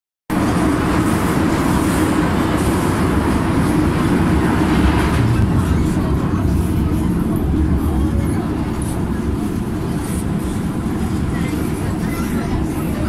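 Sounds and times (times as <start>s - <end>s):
train wheels rumbling on rail: 0.3s - 13.0s.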